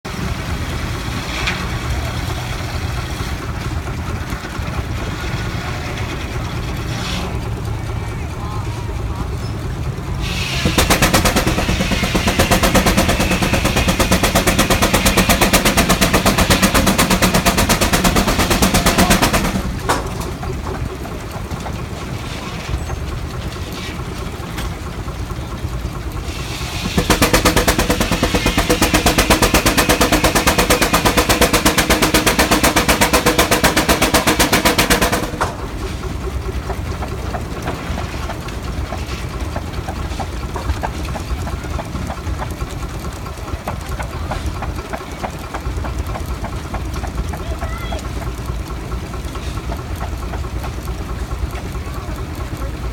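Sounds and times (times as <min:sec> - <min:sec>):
steam engine running: 0:00.1 - 0:52.9.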